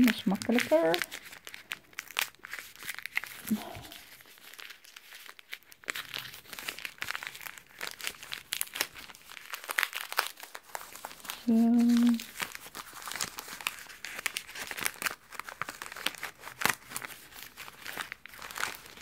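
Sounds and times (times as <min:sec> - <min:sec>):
wrapping paper crinkling and tearing: 0:00.0 - 0:19.0.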